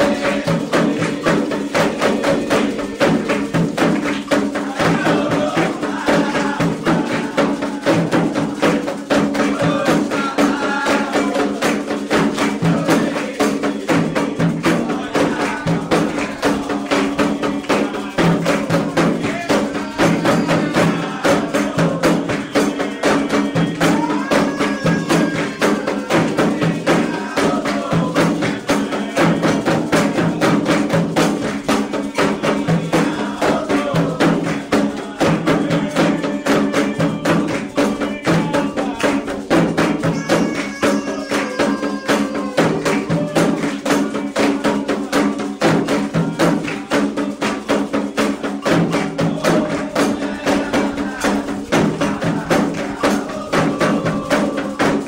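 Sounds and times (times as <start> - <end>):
group singing: 0.0 - 55.0
hand drums beating fast rhythm: 0.0 - 55.0.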